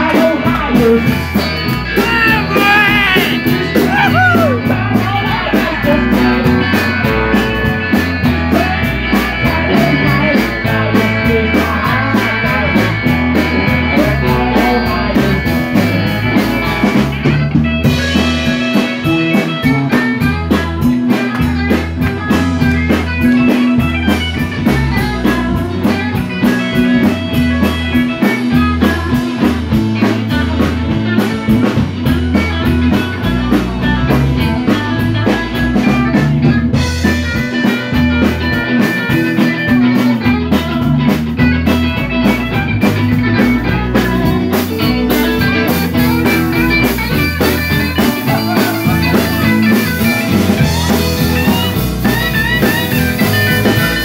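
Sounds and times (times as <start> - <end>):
drum kit beat: 0.0 - 54.0
electric guitars: 0.0 - 54.0.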